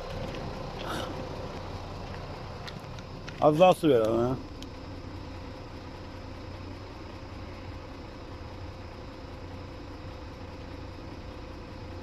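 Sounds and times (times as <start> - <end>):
engine-like hum with whine: 0.0 - 12.0.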